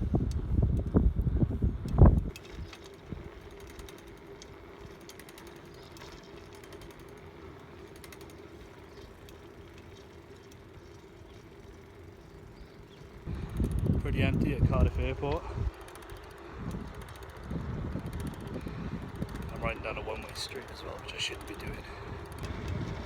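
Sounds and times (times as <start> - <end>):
bicycle freewheel ticking: 0.0 - 23.0.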